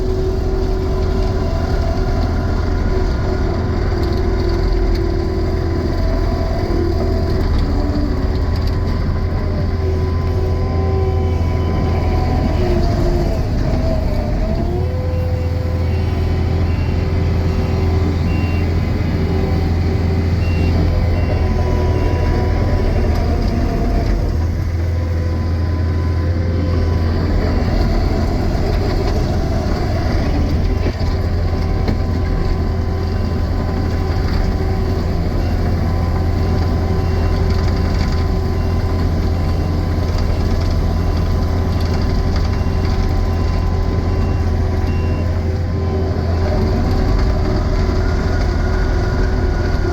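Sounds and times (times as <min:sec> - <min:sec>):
diesel engine running under load: 0:00.0 - 0:49.9.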